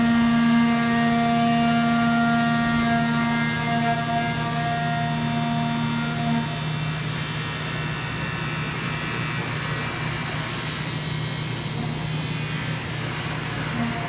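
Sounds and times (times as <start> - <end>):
high whine of spindle and cutter: 0.0 - 14.0
machine low hum: 0.0 - 14.0.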